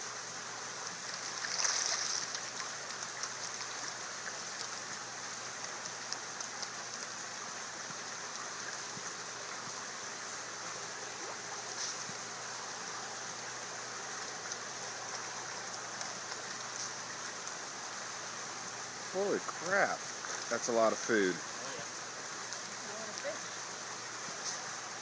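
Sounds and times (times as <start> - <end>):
water rushing and splashing: 0.0 - 25.0.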